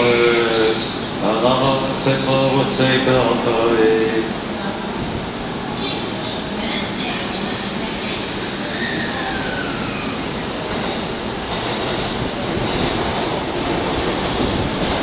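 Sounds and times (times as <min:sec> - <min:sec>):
train wheels running noise: 0:00.0 - 0:03.5, 0:05.8 - 0:15.0.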